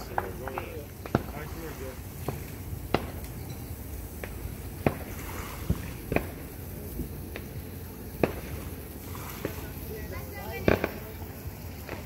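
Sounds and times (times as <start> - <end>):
firework pops: 0.0 - 12.0
low steady rumble: 0.0 - 12.0.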